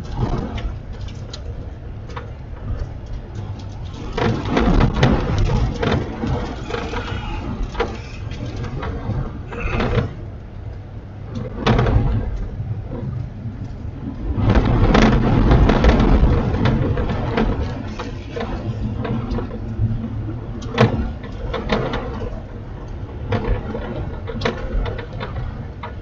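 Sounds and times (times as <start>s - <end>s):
knocks and rattles: 0.0s - 10.4s, 11.3s - 26.0s
vehicle interior rumble: 0.0s - 26.0s.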